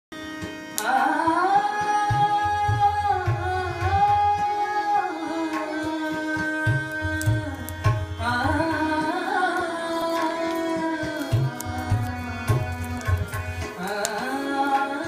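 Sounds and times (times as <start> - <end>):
woman singing: 0.8 - 15.0.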